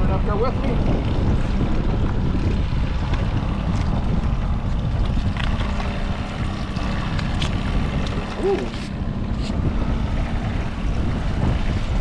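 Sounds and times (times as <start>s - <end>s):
boat motor running: 0.0s - 12.0s
wind rumbling on microphone: 0.0s - 12.0s.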